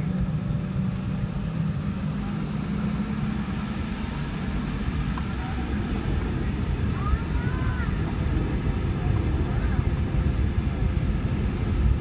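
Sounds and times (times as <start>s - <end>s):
airliner cabin rumble while taxiing: 0.0s - 12.0s.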